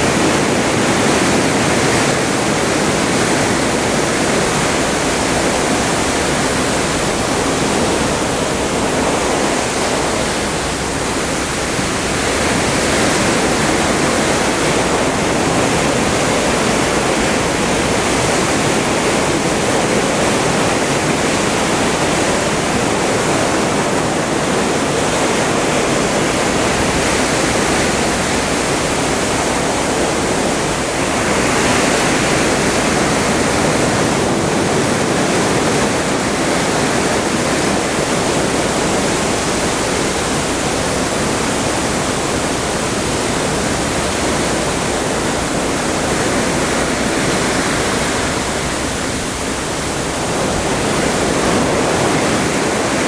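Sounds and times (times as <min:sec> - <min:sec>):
seawater rushing alongside ship: 0:00.0 - 0:53.0.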